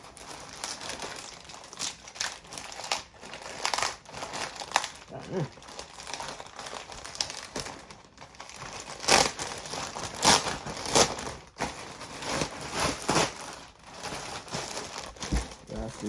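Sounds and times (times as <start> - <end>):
fabric rustling and crinkling: 0.0 - 16.0.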